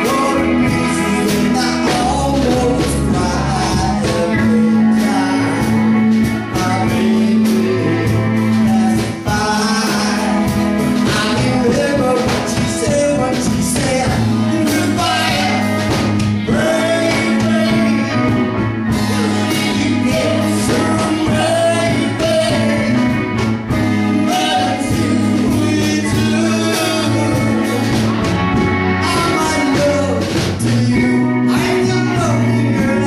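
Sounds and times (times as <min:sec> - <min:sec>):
lead vocal singing: 0:00.0 - 0:33.0
live band playing: 0:00.0 - 0:33.0.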